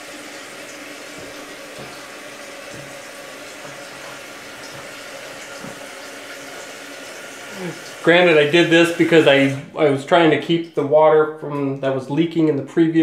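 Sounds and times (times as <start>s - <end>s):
toilet tank refilling: 0.0s - 10.9s.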